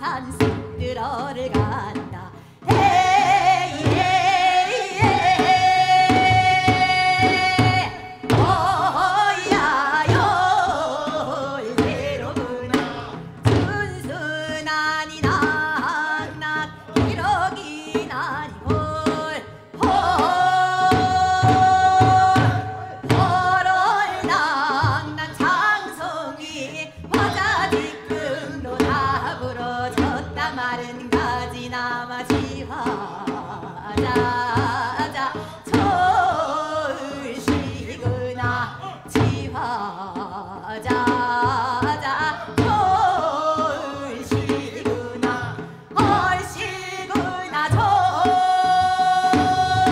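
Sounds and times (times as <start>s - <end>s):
steady drum accompaniment: 0.0s - 49.9s
woman singing folk song: 0.0s - 49.9s.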